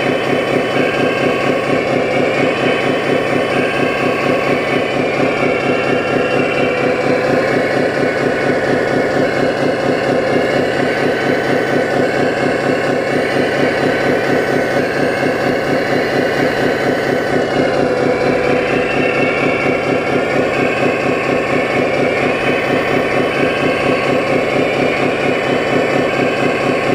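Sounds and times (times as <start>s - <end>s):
diesel engine sound running: 0.0s - 26.9s
high whine: 0.0s - 26.9s.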